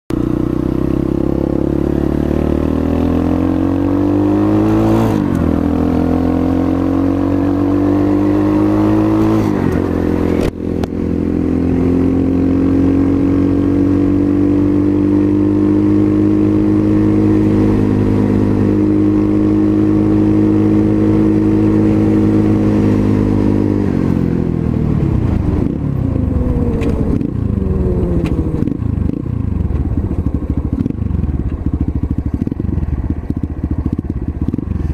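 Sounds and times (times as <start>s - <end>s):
dirt bike engine accelerating: 0.1s - 34.9s.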